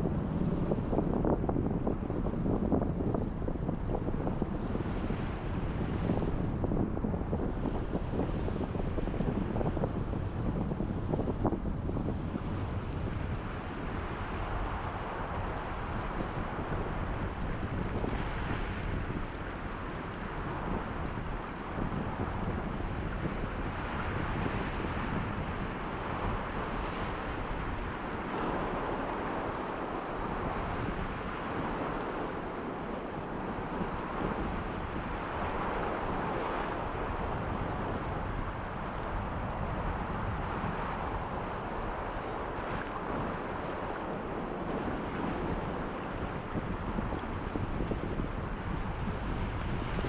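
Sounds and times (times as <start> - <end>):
wind buffeting microphone: 0.0 - 50.0
surf washing on rocky shore: 3.9 - 50.0.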